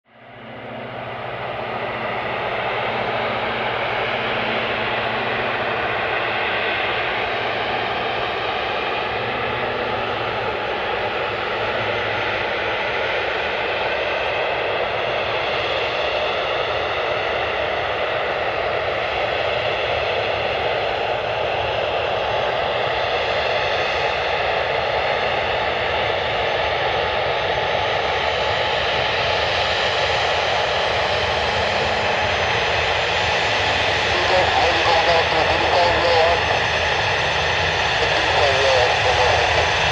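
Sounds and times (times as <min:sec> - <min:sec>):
jet engines rumbling with whine: 0:00.1 - 0:39.9.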